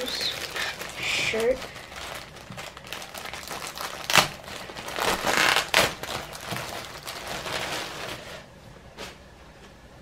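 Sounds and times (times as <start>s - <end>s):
packaging crinkling and rustling: 0.0s - 9.2s
sharp packaging crackle: 0.0s - 9.2s.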